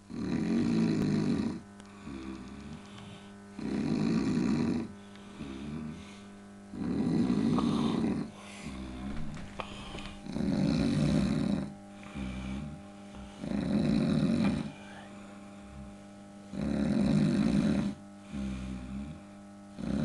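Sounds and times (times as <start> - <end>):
person snoring heavily: 0.0 - 20.0
wavering breath: 1.5 - 19.6.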